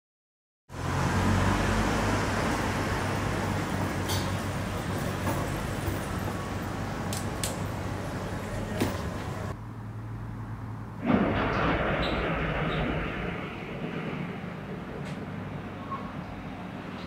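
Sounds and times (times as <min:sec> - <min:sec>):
city traffic hum: 0:00.7 - 0:17.0.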